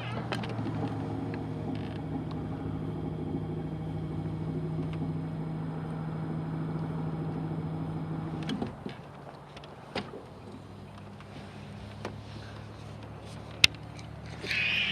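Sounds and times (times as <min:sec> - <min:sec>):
boat motor humming: 0:00.0 - 0:14.9.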